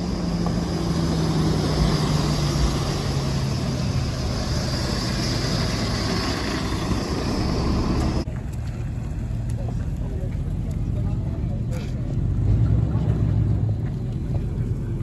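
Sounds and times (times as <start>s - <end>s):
diesel truck engine driving past: 0.0s - 15.0s.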